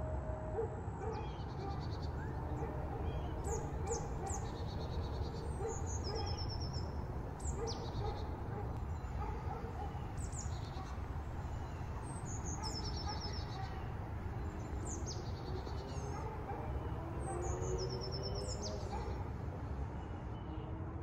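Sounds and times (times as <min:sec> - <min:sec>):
songbird singing: 0:01.0 - 0:20.8.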